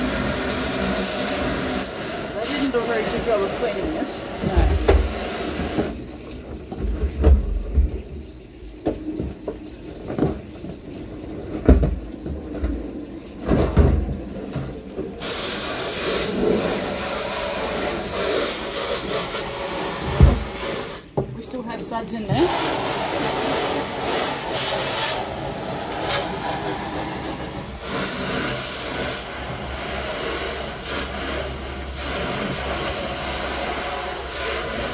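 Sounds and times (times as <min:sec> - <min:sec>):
hose spraying into plastic drum: 0:00.0 - 0:34.9.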